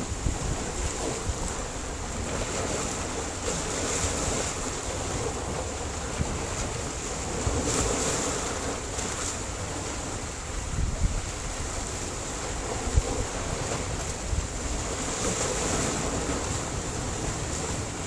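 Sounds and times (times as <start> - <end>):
surf breaking on rocky shore: 0.0 - 18.0
wind buffeting microphone: 0.0 - 18.0.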